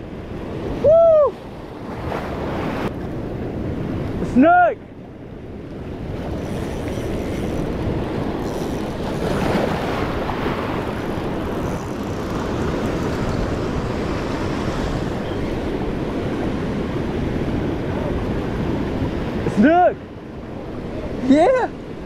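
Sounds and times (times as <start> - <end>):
surf washing over rocks: 0.0 - 22.0
wind buffeting microphone: 0.0 - 22.0.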